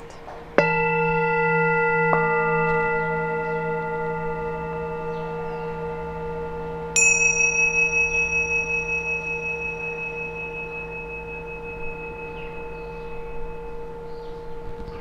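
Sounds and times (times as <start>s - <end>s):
high singing bowl struck: 0.0s - 15.0s
low singing bowl hum: 0.0s - 15.0s.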